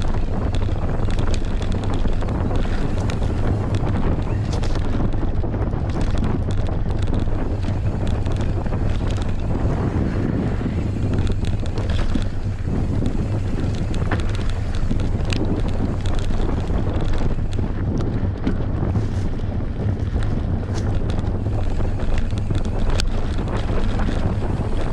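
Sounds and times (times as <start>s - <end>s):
mountain bike rattling on trail: 0.0s - 24.9s
wind buffeting microphone: 0.0s - 24.9s.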